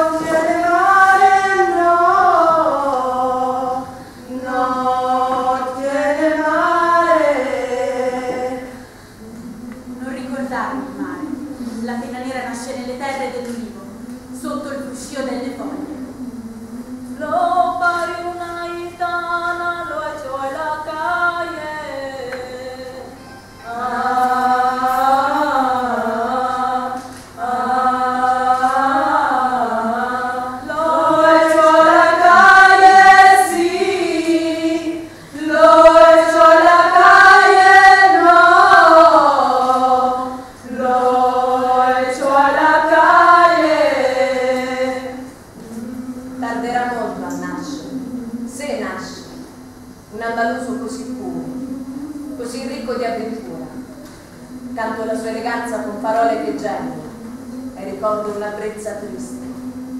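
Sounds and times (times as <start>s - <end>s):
women singing unaccompanied: 0.0s - 59.9s.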